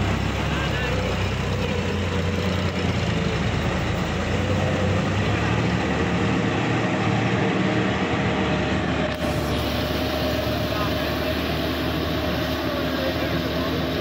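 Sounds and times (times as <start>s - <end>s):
tractor diesel engine humming: 0.0s - 14.0s.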